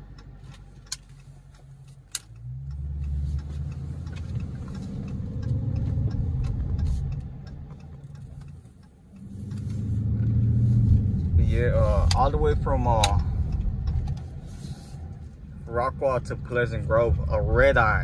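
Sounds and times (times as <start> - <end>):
sharp ticks: 0.0 - 16.4
car engine rumble: 0.0 - 18.0.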